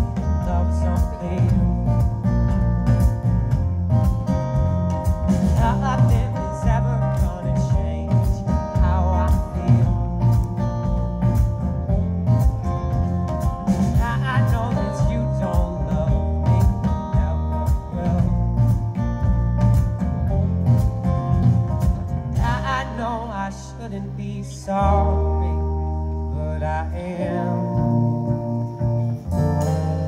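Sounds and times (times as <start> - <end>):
lead guitar bent notes: 0.0 - 30.0
rock band playing: 0.0 - 30.0.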